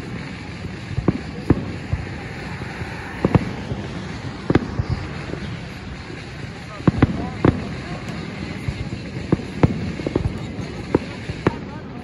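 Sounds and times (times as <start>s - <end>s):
distant firework booms: 0.0s - 11.8s
steady background noise: 0.0s - 12.0s.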